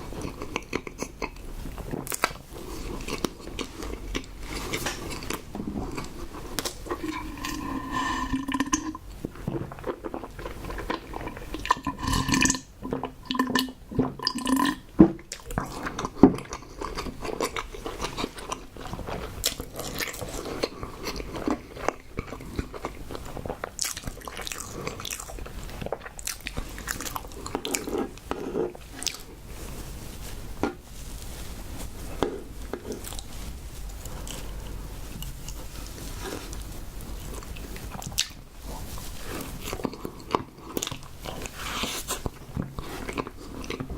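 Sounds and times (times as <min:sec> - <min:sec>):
wet chewing and mouth clicks: 0:00.0 - 0:29.5, 0:33.9 - 0:43.9.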